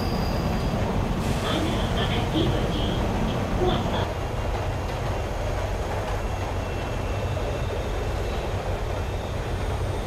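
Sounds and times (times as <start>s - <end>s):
train rumble: 0.0s - 10.0s.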